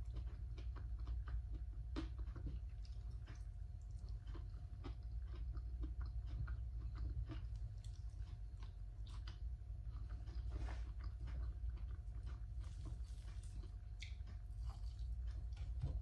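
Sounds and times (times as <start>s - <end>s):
person chewing crunchy food: 0.0s - 16.0s
steady low hum: 0.0s - 16.0s.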